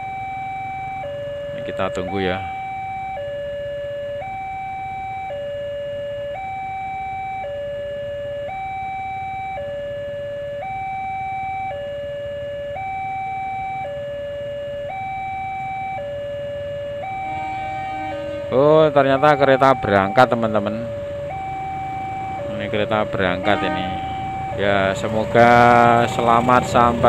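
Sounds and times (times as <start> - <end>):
level crossing two-tone alarm: 0.0 - 27.0.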